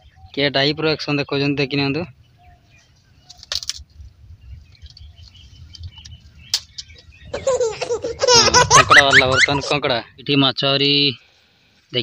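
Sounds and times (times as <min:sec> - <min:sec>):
faint bird chirping: 0:00.0 - 0:10.3.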